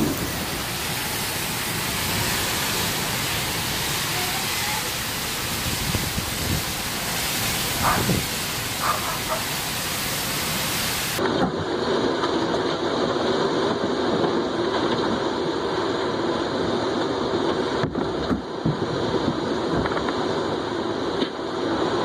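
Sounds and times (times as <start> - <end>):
strong wind: 0.0 - 22.0.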